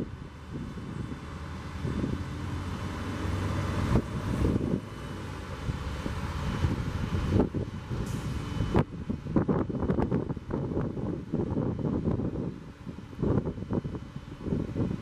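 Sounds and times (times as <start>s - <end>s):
wind on microphone: 0.0s - 2.7s, 3.4s - 5.0s, 5.6s - 15.0s
diesel truck engine running: 0.0s - 15.0s.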